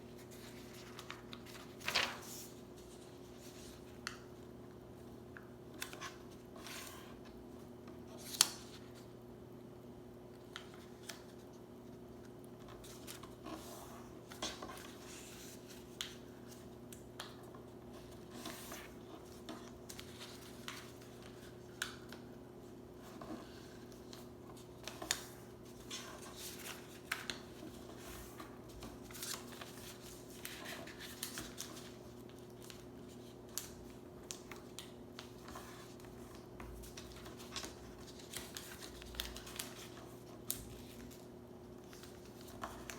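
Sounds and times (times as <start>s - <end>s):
paper rustling: 0.0s - 4.5s, 12.6s - 42.9s
faint steady hum: 0.0s - 42.9s.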